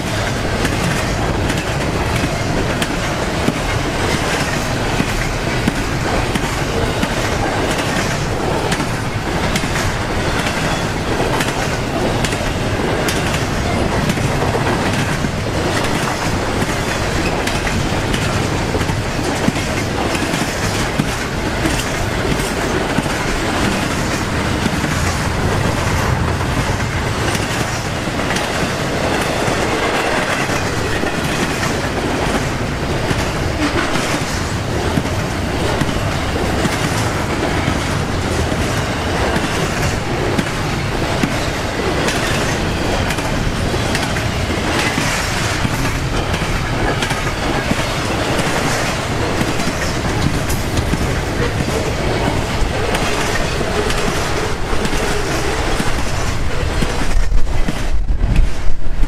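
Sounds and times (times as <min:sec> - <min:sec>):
wheels clicking over rail joints: 0:00.0 - 0:58.6
freight train rumbling past: 0:00.0 - 0:59.0.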